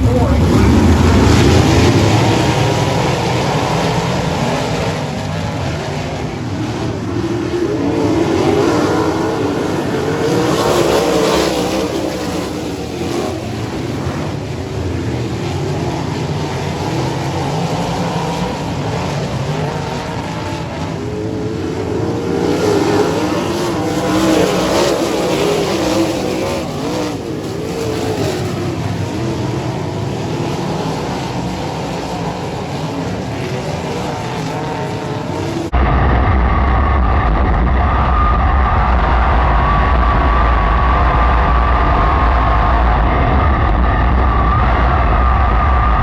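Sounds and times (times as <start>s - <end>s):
race car engines racing: 0.0s - 46.0s.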